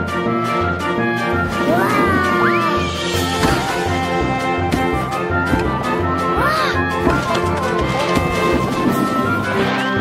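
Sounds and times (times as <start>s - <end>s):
film score music: 0.0s - 10.0s.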